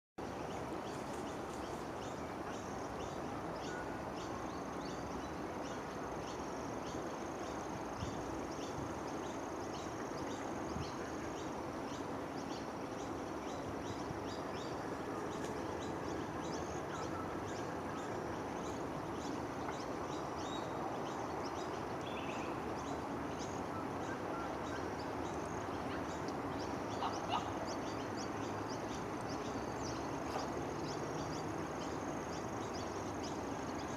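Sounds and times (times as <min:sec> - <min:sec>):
steady hiss: 0:00.2 - 0:33.9
high insect drone: 0:00.4 - 0:33.9.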